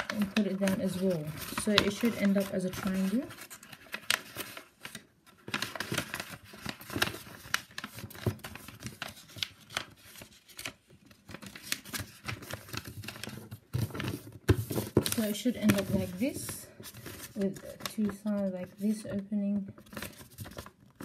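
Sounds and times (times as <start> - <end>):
paper folding and crinkling: 0.0 - 21.0.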